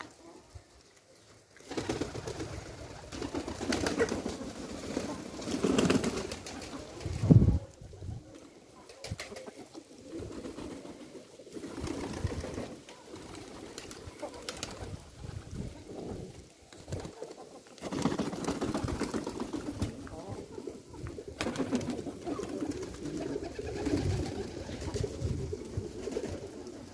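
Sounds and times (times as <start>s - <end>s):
pigeons cooing: 1.7s - 26.9s.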